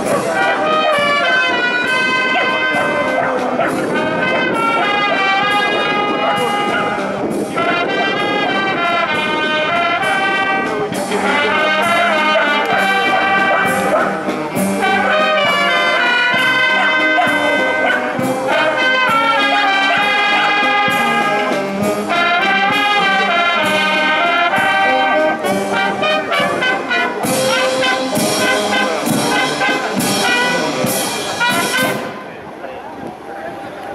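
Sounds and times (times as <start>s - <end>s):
brass band playing: 0.0s - 32.4s.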